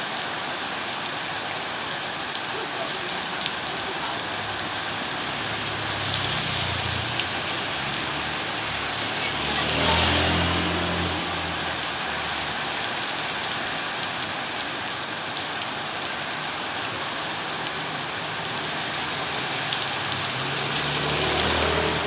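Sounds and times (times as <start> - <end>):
rain on hard surface: 0.0 - 22.0.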